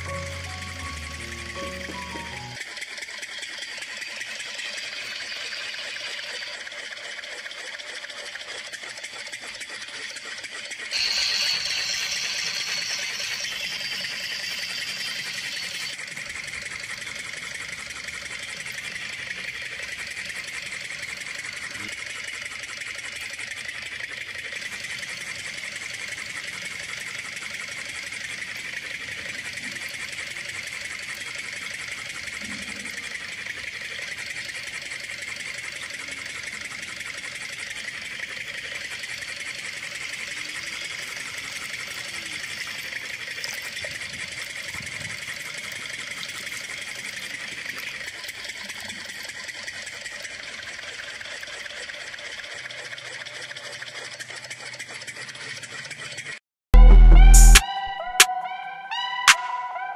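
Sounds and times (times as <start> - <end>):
electric water pump humming: 0.0 - 56.3.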